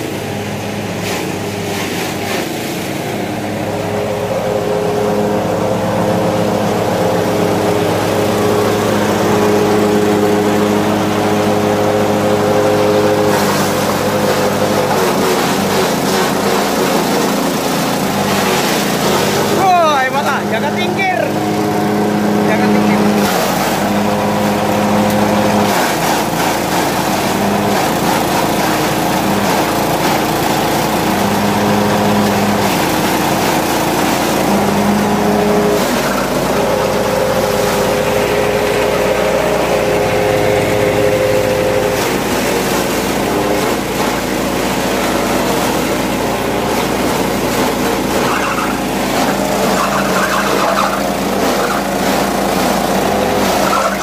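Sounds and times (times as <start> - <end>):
petrol engine running chopper: 0.0 - 54.0.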